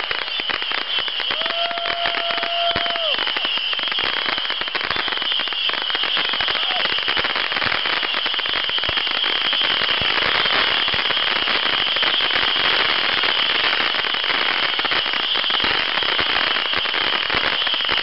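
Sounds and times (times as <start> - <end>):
firework fountain hissing and crackling: 0.0 - 18.0.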